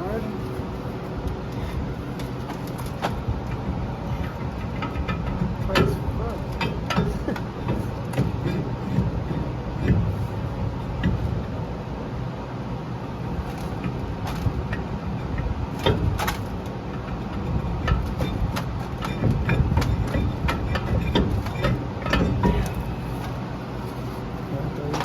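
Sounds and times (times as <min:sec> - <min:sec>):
steady low rumble: 0:00.0 - 0:25.0
metal clicks knocks and scrapes: 0:01.4 - 0:11.4, 0:13.4 - 0:23.4.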